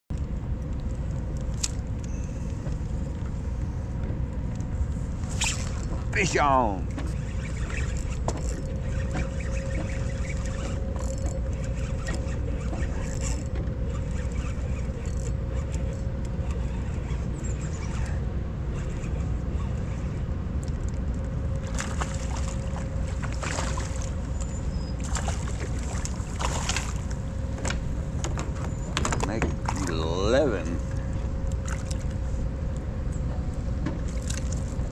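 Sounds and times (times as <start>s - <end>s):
water and wind rumble: 0.1s - 34.9s.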